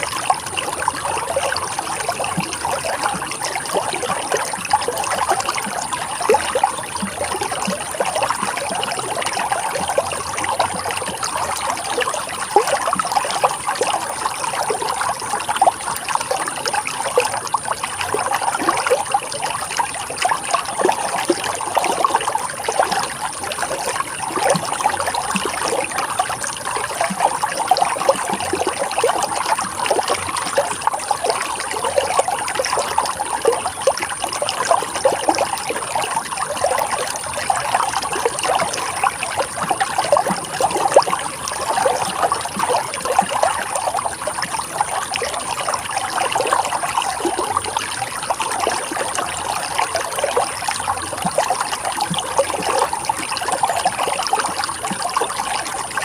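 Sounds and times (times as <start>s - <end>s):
river water running and trickling: 0.0s - 56.0s.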